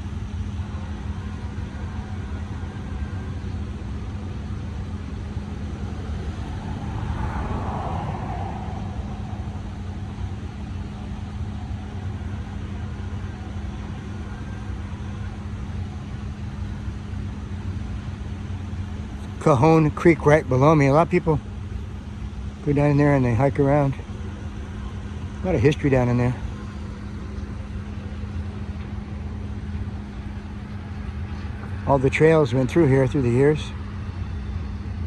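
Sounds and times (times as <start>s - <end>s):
diesel locomotive rumbling: 0.0s - 35.0s.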